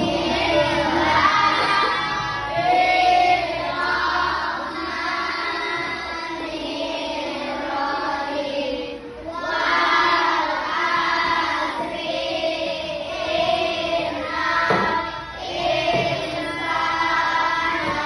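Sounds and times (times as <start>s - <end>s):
children singing together: 0.0s - 18.0s.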